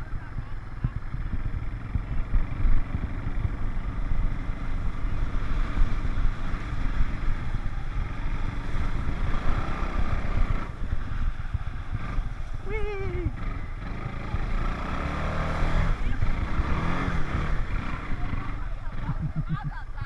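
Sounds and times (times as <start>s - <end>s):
atv engine running: 0.0s - 20.0s
wind buffeting microphone: 0.0s - 20.0s.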